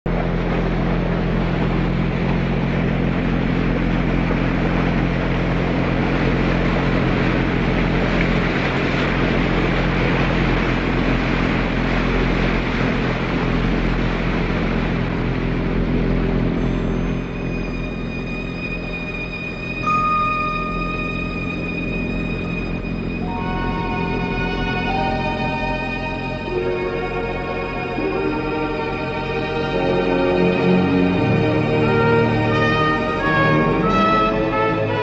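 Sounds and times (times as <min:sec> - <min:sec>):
motorboat engines droning: 0:00.1 - 0:35.0.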